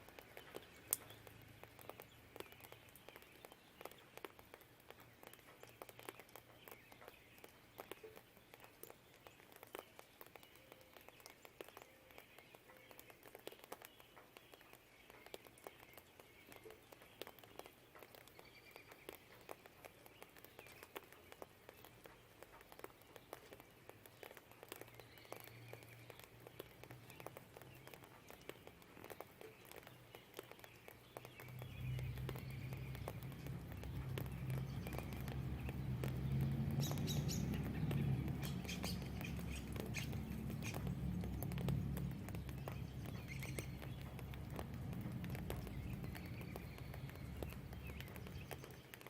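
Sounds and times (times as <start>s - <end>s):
rain pattering and dripping: 0.0s - 49.0s.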